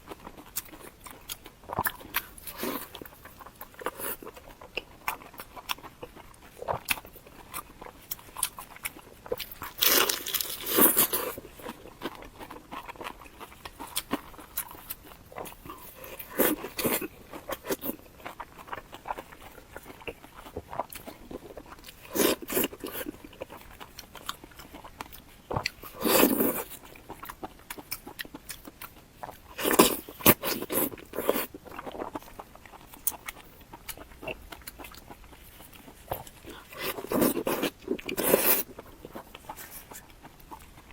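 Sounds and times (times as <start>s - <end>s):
soft chewing and mouth clicks: 0.0s - 40.9s
person crunching food: 0.1s - 40.9s.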